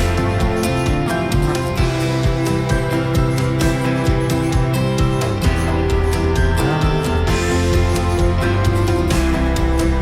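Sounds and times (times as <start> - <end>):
strummed guitar music with beat: 0.0 - 10.0.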